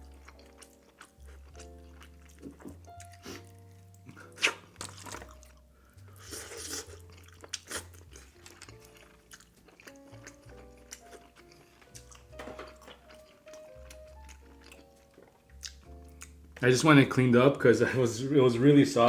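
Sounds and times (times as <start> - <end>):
crunching and chewing: 0.0 - 16.6
soft background music: 0.0 - 19.0.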